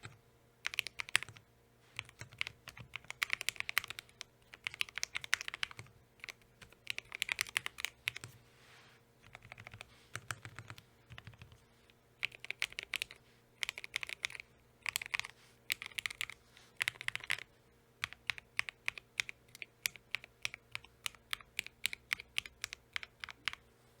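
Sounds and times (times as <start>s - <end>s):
mechanical keyboard typing: 0.0s - 1.4s, 2.0s - 8.3s, 9.2s - 11.6s, 12.2s - 23.6s.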